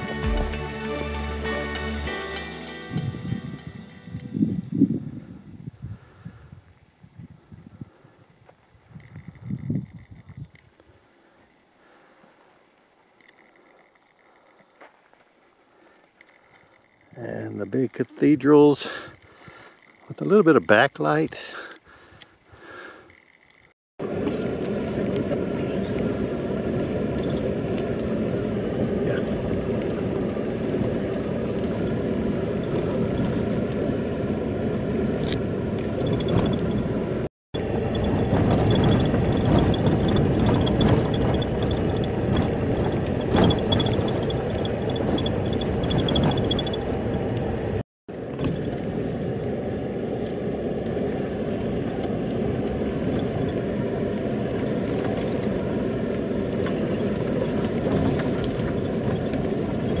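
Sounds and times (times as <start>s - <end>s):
vehicle engine and tyre rumble: 3.0s - 60.0s.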